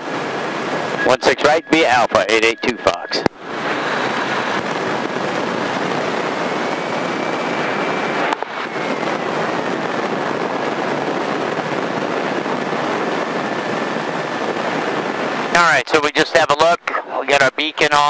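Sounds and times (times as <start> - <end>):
light aircraft engine and propeller: 0.0 - 18.0.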